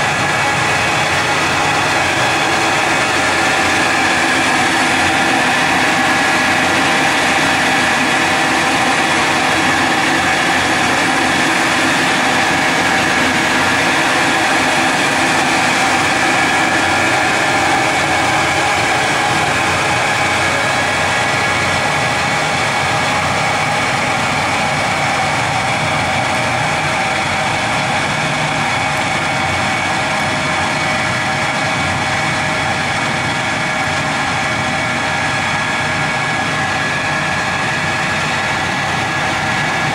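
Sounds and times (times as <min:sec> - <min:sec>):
machine running steadily: 0:00.0 - 0:39.9.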